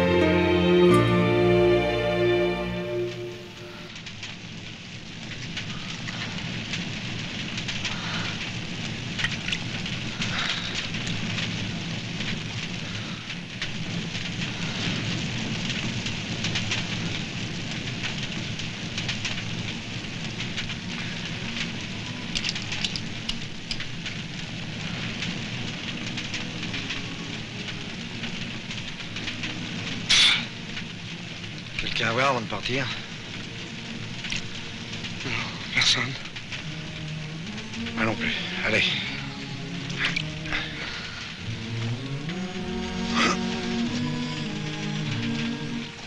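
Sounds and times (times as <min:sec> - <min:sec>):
rain falling on water: 0:00.0 - 0:46.0.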